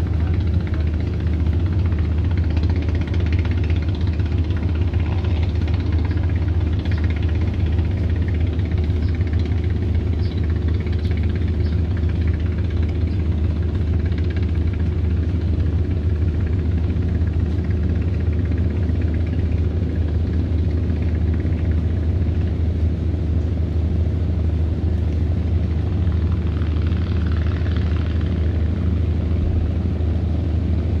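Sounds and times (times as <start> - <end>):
boat engine rumbling: 0.0 - 31.0.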